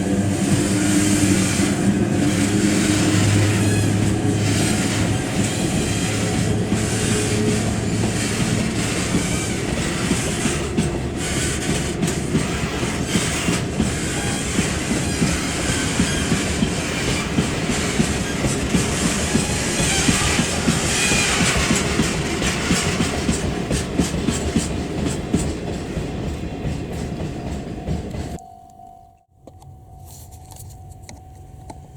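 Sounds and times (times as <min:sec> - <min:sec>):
model train rumbling: 0:00.0 - 0:28.3
wheels clicking over rail joints: 0:00.4 - 0:28.3.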